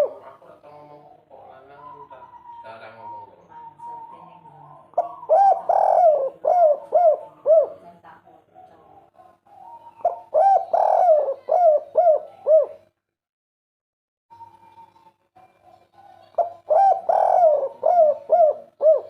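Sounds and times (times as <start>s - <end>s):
dove cooing: 0.0s - 12.9s, 14.3s - 19.0s.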